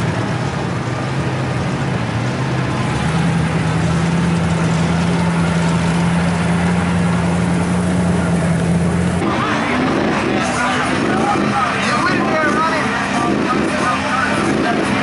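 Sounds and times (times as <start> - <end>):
diesel truck engine at low revs: 0.0 - 15.0.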